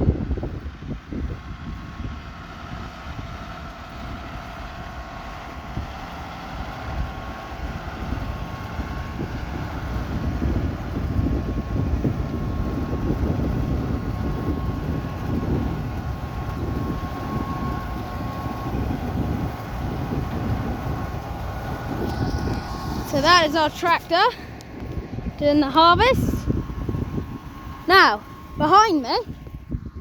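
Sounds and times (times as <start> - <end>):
tractor diesel engine whining: 0.0 - 30.0
wind buffeting microphone: 0.0 - 30.0.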